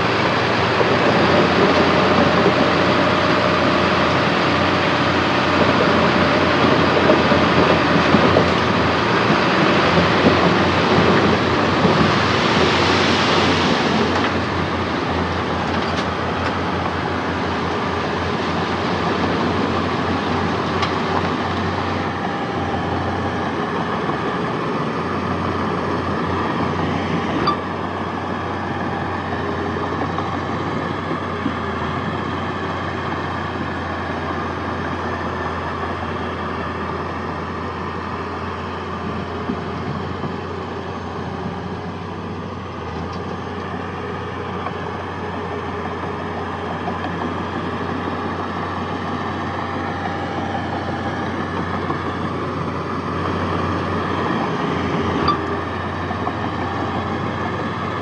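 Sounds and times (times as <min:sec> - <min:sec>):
diesel machinery clattering: 0:00.0 - 0:58.0.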